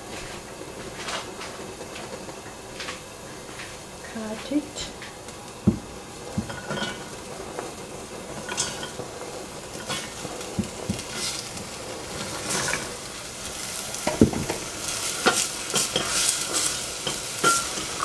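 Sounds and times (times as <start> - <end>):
beans sizzling in hot oil: 0.0 - 18.0.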